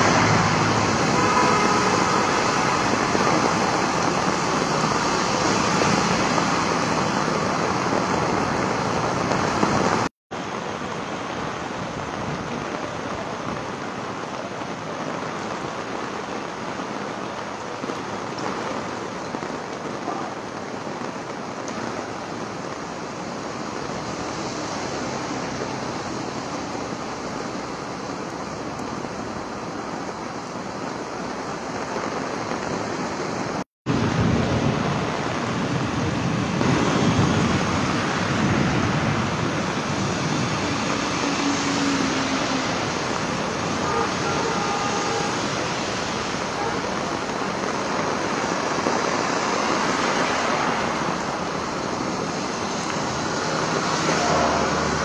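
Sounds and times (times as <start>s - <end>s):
car tyres swishing through water: 0.0s - 55.0s
heavy rain on wet road: 0.0s - 55.0s.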